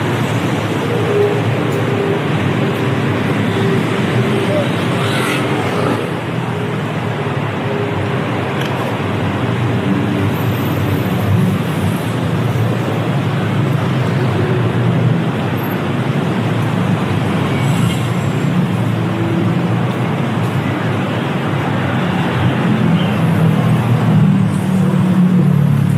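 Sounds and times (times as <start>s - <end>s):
street traffic: 0.0s - 25.9s.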